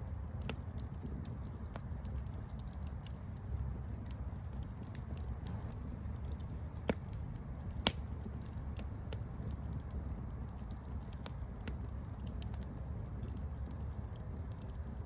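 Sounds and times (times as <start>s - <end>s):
campfire crackling: 0.0s - 15.0s
campfire low rumble: 0.0s - 15.0s
sharp fire pops: 0.3s - 15.0s.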